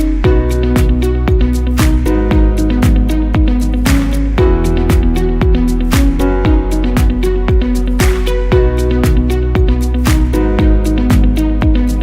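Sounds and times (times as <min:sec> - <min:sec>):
upbeat electronic funk music: 0:00.0 - 0:12.0.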